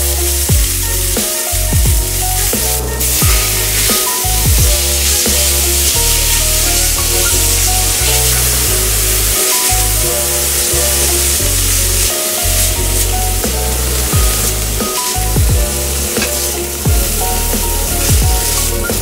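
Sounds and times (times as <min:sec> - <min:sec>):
meat sizzling in frying pan: 0:00.0 - 0:19.0
music with deep bass: 0:00.0 - 0:19.0.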